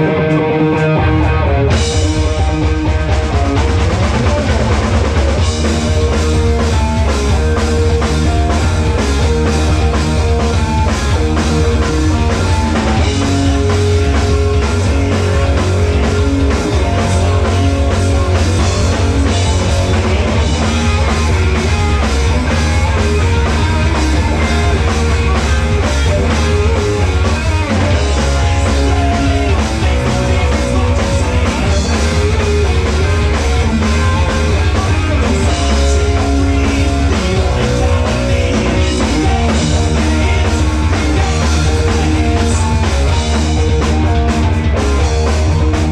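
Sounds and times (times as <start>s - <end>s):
bass guitar: 0.0s - 45.9s
distorted electric guitars: 0.0s - 45.9s
drum kit pounding: 0.0s - 45.9s.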